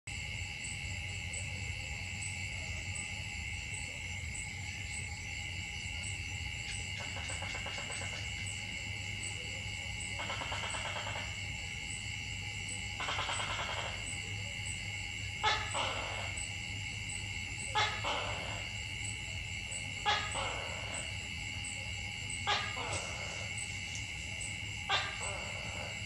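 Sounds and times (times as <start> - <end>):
forest insects droning: 0.1 - 26.0.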